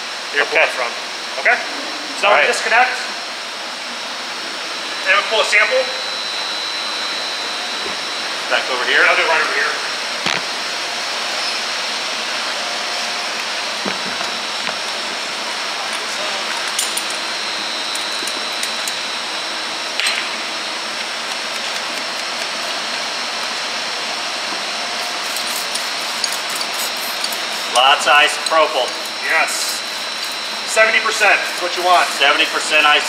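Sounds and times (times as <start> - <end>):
equipment hiss and hum: 0.0 - 33.0.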